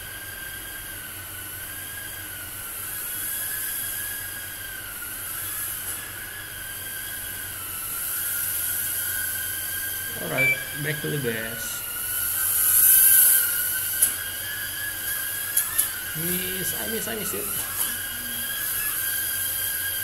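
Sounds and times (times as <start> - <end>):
micro drone propellers whining: 0.1 - 20.0.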